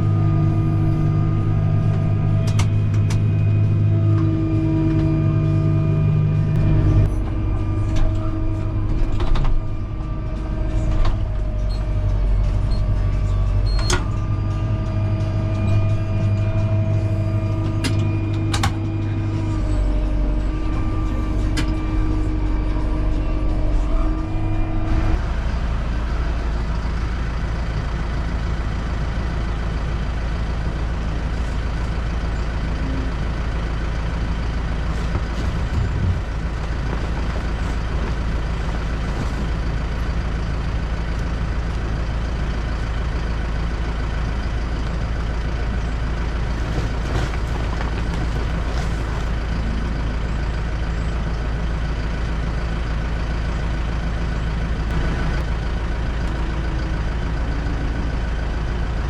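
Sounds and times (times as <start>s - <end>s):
heavy machinery engine humming: 0.0s - 59.0s.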